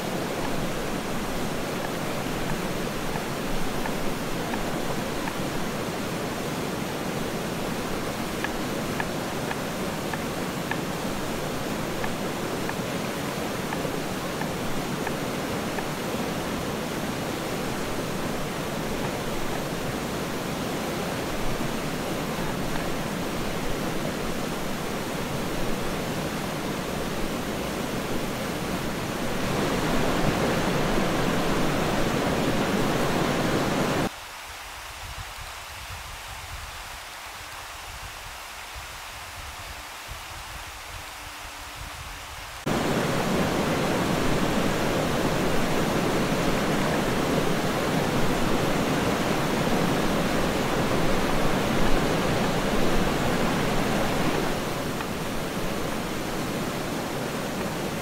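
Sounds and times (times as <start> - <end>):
stream rushing over rocks: 0.0 - 41.5, 42.3 - 58.0.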